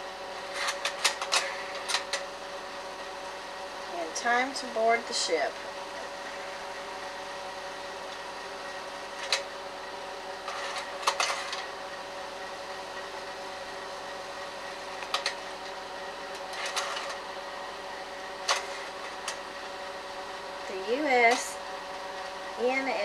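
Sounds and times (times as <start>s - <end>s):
projector fan humming: 0.0s - 23.0s.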